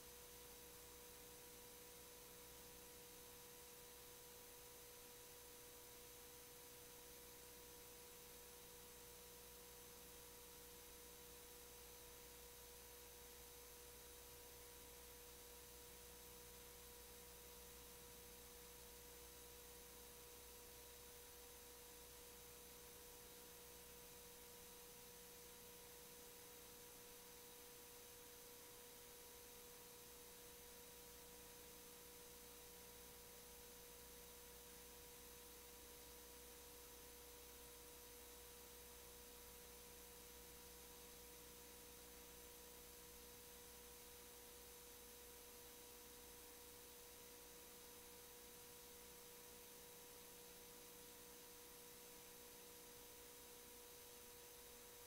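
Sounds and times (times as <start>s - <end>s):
faint steady tone with hiss: 0.0s - 55.0s.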